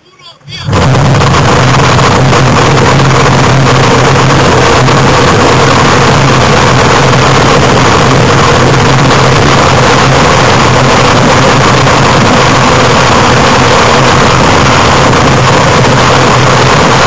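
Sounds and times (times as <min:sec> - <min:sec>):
wheels rumbling on asphalt: 0:00.6 - 0:17.0.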